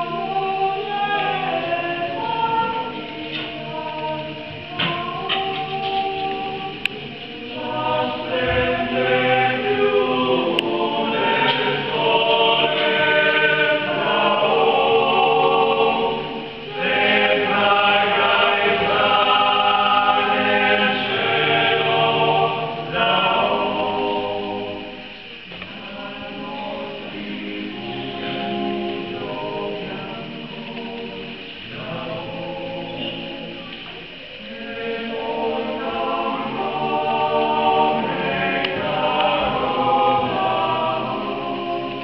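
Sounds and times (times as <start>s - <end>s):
male vocal ensemble singing: 0.0s - 42.0s.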